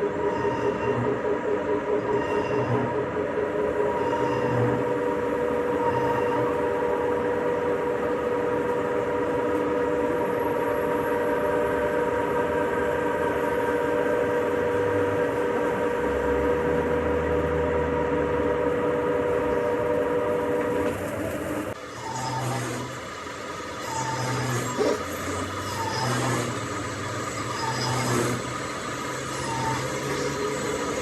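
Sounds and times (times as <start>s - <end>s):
metalworking machine whining and grinding: 0.0s - 31.0s.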